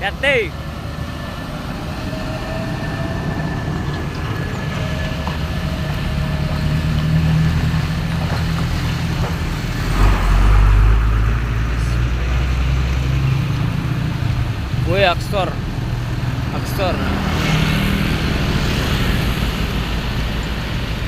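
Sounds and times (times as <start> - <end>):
truck diesel engine rumbling: 0.0 - 21.0.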